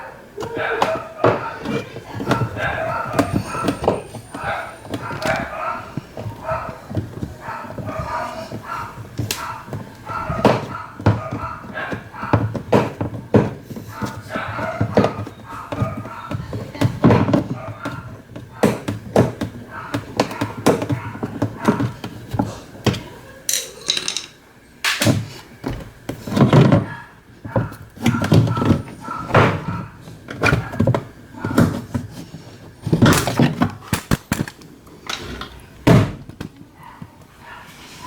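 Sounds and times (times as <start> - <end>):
knocks and clunks of tools: 0.4 - 11.6, 12.2 - 32.1, 32.8 - 36.6.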